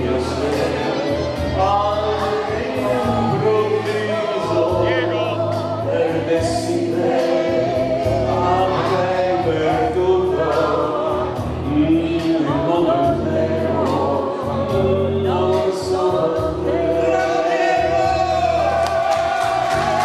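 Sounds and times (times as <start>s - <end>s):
man singing with vibrato: 0.0s - 19.9s
instrumental accompaniment with bass: 0.0s - 20.0s.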